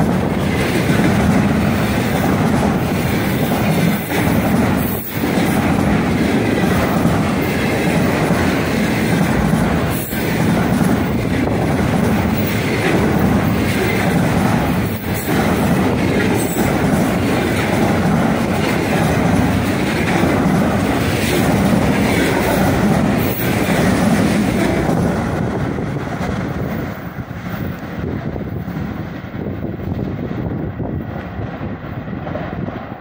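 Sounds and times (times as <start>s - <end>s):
sharp knocks of train wheels: 0.0s - 30.3s
freight train wheels rumbling: 0.0s - 33.0s.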